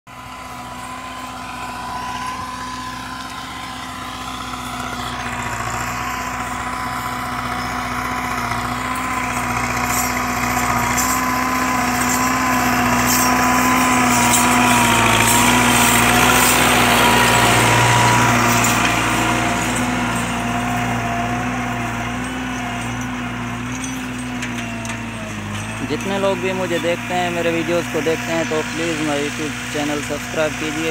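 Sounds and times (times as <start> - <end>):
tractor diesel engine under load: 0.1 - 30.9.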